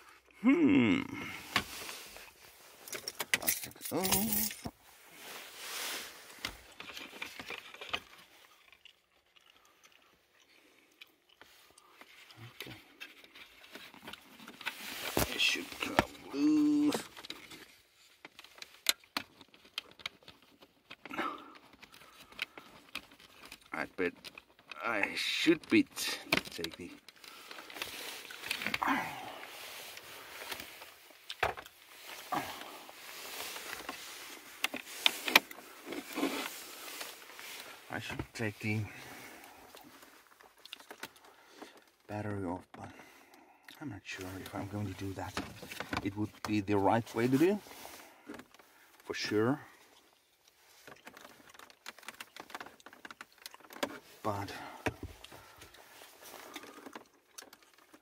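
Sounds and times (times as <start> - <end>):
fumbling with plastic parts: 1.2 - 58.0.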